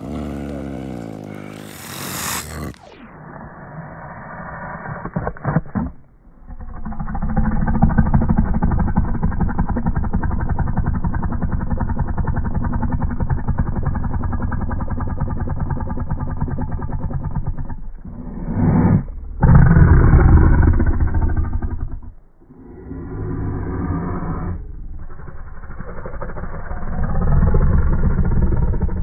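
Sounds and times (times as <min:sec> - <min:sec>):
snow leopard growling: 0:00.0 - 0:29.0.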